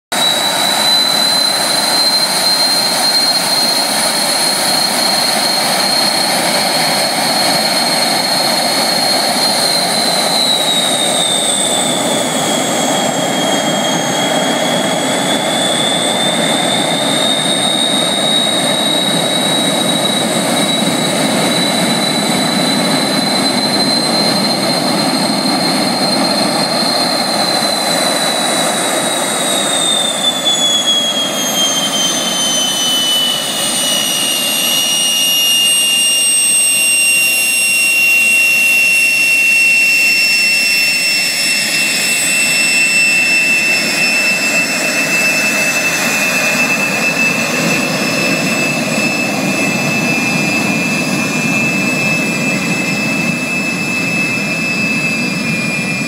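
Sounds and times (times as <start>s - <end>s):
jet engines whining: 0.1s - 56.0s.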